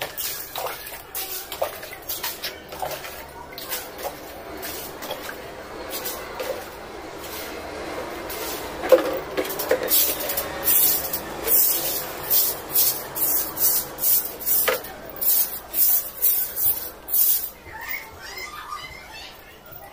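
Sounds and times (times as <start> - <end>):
broom sweeping stone floor: 0.0 - 17.6.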